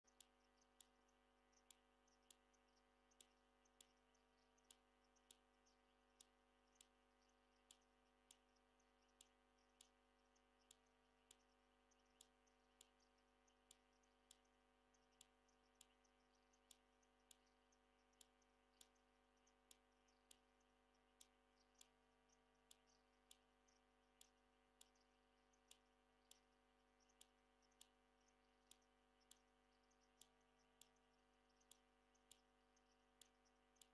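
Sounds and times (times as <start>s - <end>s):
faint high chirps: 0.0s - 33.9s
faint sharp clicks: 0.0s - 33.9s
low steady hum: 0.0s - 33.9s.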